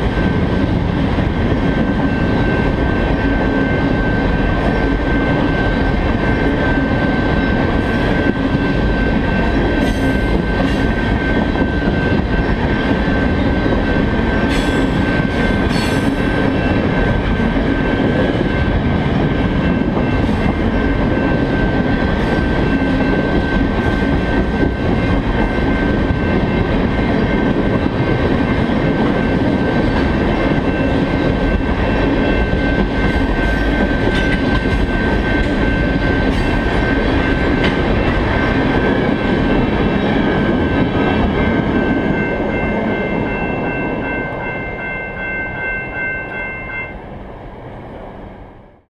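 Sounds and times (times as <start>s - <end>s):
steel wheels rumbling on rail: 0.0s - 48.9s.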